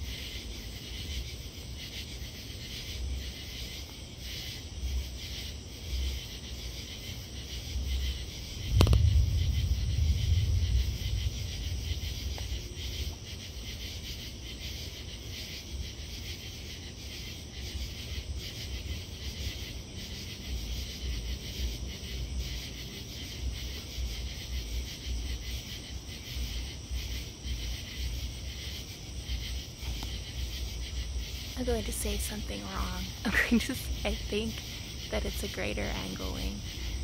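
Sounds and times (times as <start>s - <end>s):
crickets and katydids trilling: 0.0s - 37.0s.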